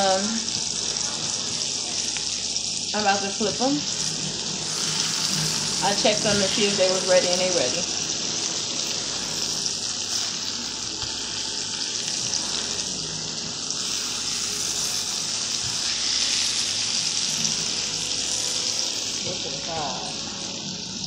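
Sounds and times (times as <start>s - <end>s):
meat sizzling in a skillet: 0.0s - 21.0s.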